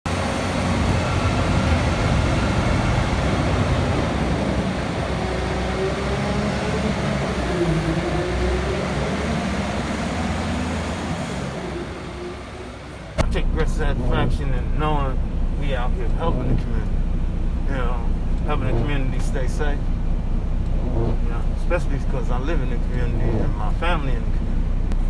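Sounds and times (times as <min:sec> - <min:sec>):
road noise: 0:00.0 - 0:25.0
truck engine rumble: 0:00.0 - 0:25.0.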